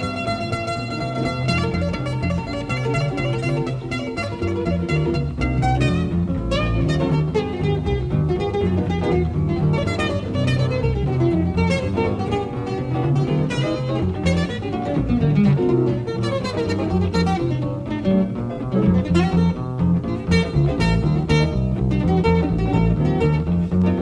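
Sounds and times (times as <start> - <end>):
bass line: 0.0 - 24.0
jazz acoustic guitar: 0.0 - 24.0.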